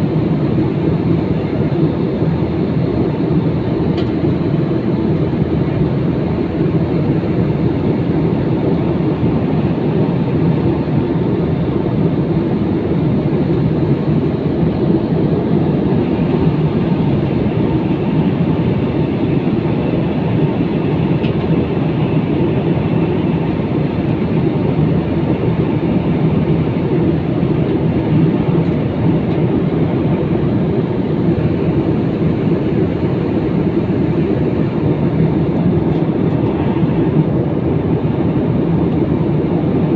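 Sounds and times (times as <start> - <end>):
jet airliner cabin rumble: 0.0 - 39.9.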